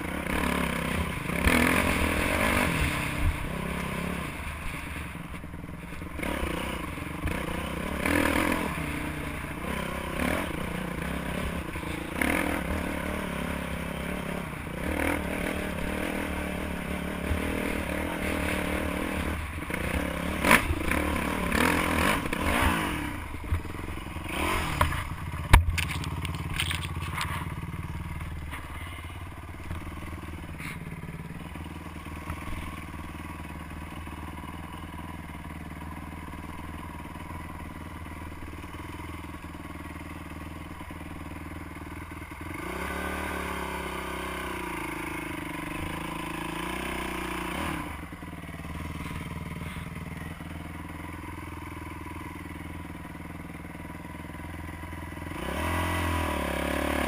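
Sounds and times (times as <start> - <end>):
dirt bike engine revving: 0.0 - 33.6, 42.0 - 57.0.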